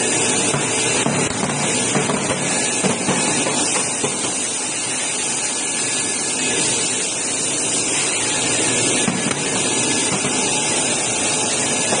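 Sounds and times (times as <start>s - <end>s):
loud hiss of rushing air: 0.0s - 12.0s.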